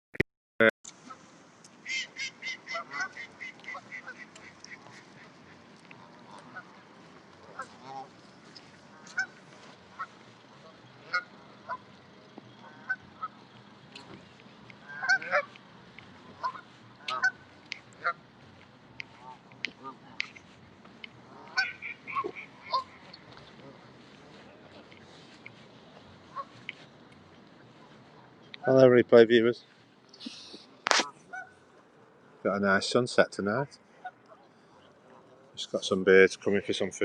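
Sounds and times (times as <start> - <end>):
waterfowl calling: 0.9 - 28.8, 29.6 - 32.1.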